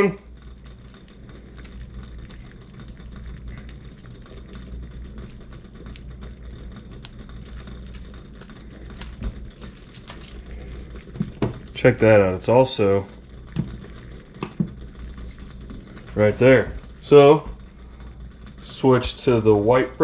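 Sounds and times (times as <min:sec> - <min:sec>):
low steady hum: 0:00.0 - 0:20.0
water boiling and bubbling: 0:00.0 - 0:20.0.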